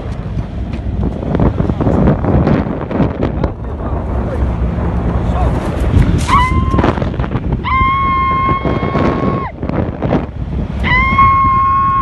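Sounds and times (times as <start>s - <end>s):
low rumble of movement: 0.0s - 12.0s
wind buffeting microphone: 0.0s - 12.0s.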